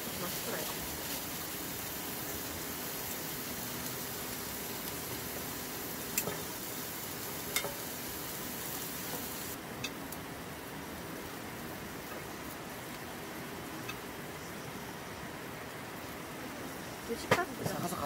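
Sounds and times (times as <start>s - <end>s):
meat sizzling on a griddle: 0.0s - 16.2s.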